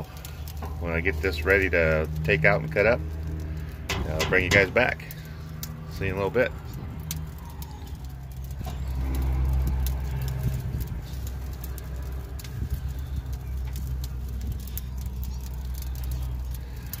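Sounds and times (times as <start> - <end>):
small clicks and ticks: 0.0 - 17.0.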